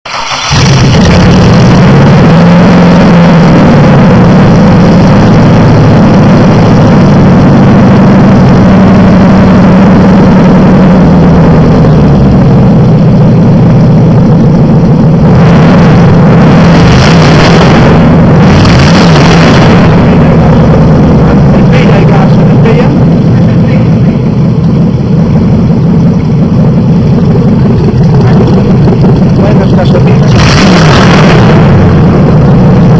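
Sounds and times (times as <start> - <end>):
engine revving bursts: 0.0 - 32.9
racing engine running loudly: 0.0 - 32.9.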